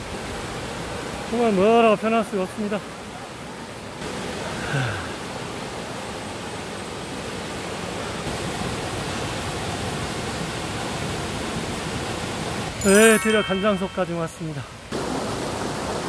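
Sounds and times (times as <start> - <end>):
stream of falling water: 0.0 - 16.0.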